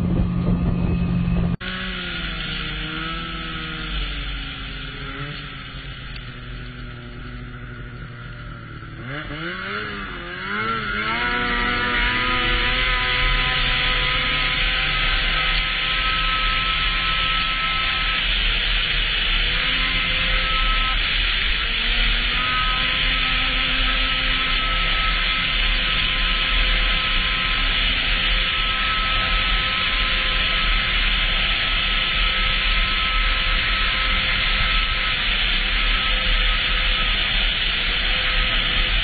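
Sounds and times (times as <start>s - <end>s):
snowmobile engine: 0.0s - 39.0s.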